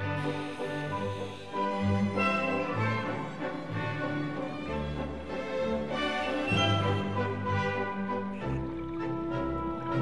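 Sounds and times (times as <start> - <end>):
bowed strings: 0.0 - 10.0.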